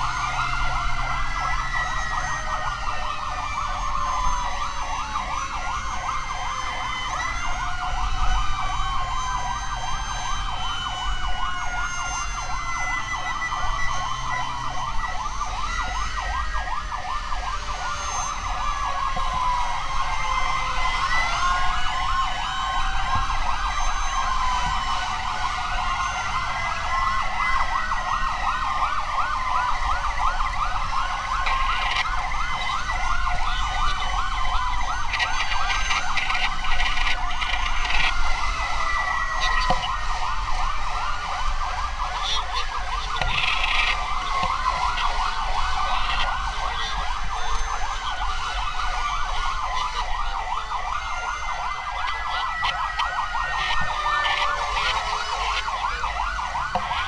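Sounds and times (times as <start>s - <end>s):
fast yelping siren: 0.0s - 57.0s
wailing sirens: 0.0s - 57.0s.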